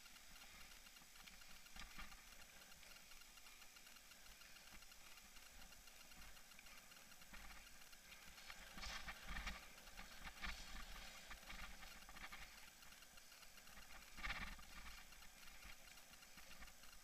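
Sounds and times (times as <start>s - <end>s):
camera rattling on mountain bike: 0.0s - 17.0s.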